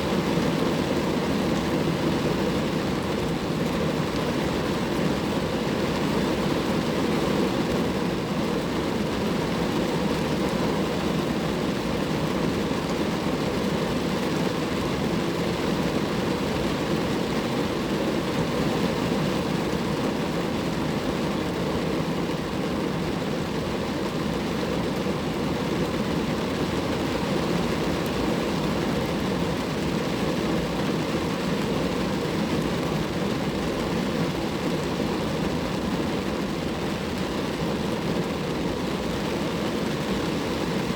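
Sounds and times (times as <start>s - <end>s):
rain falling on a car: 0.0s - 40.9s.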